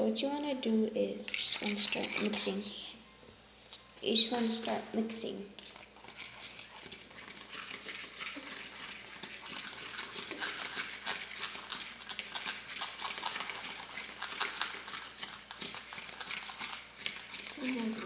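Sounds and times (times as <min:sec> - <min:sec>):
utensil stirring soap in container: 0:01.2 - 0:02.9, 0:03.7 - 0:18.0.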